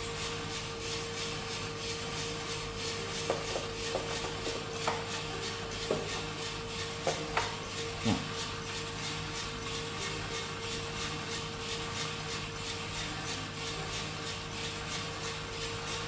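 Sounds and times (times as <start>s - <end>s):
coffee roaster humming: 0.0s - 16.0s.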